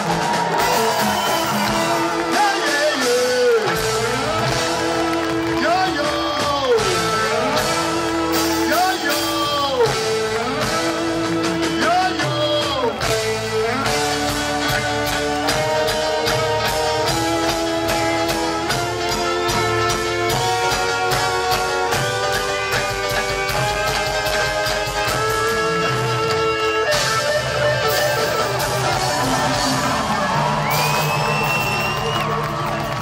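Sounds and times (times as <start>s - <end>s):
live band playing: 0.0s - 33.0s.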